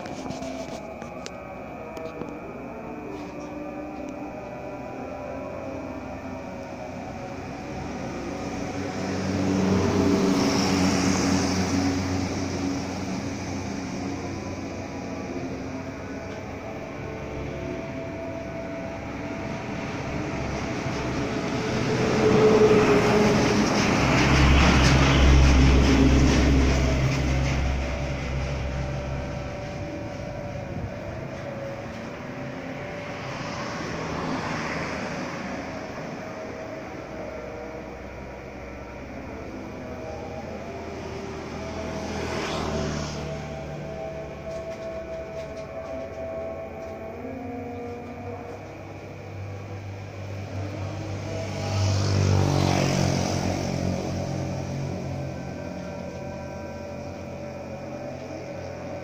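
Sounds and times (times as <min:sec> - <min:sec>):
vehicle passing by: 0:00.0 - 0:59.0.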